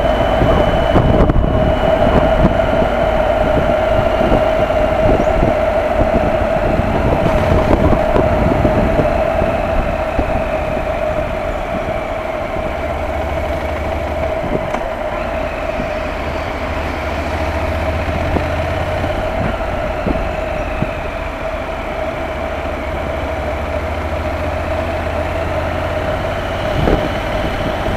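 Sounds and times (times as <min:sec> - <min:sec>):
car engine droning: 0:00.0 - 0:27.9
road and wind noise: 0:00.0 - 0:27.9.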